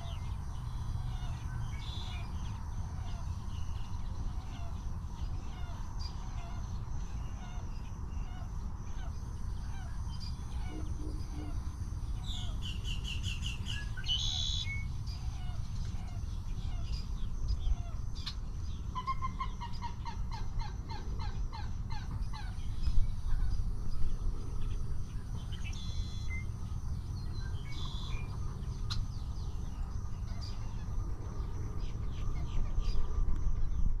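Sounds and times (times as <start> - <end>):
steady low rumble: 0.0 - 14.1, 14.7 - 34.0
wetland birds calling: 0.0 - 33.0.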